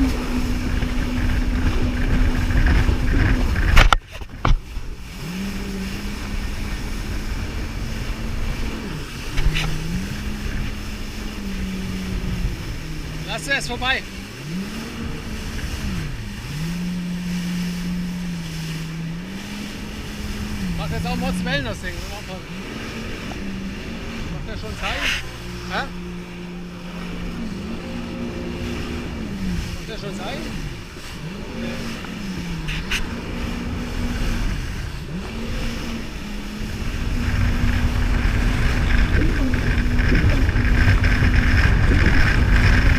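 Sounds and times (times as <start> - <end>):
jet ski engine running: 0.0 - 42.9
water noise: 0.0 - 42.9
wind on microphone: 0.0 - 42.9.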